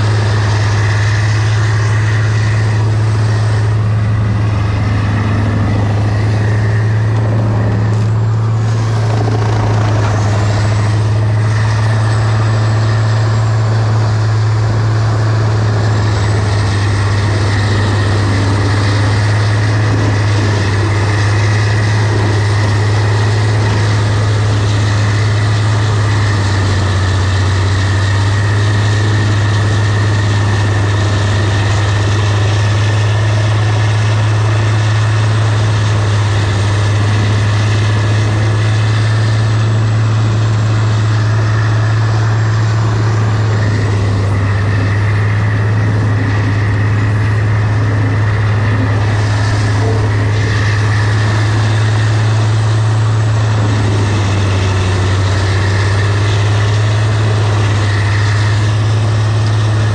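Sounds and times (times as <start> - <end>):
heavy truck engine droning: 0.0 - 59.9.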